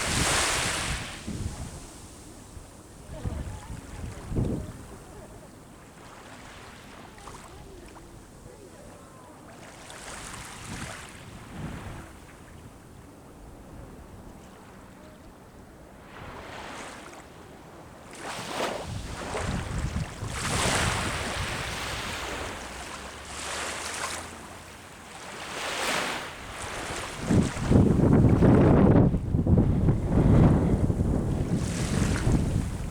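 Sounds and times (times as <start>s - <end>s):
sea waves breaking on shore: 0.0s - 13.2s, 14.0s - 32.9s.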